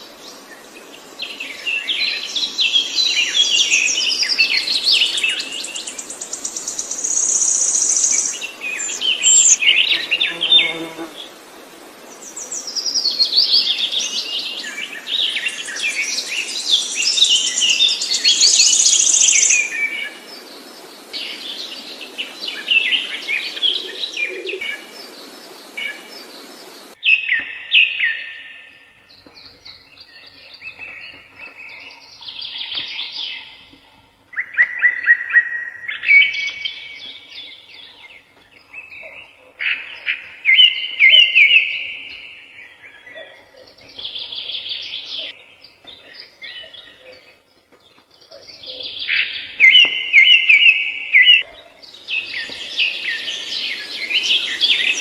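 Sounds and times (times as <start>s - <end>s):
background hiss: 0.0s - 55.0s
songbirds chirping and trilling: 0.0s - 55.0s.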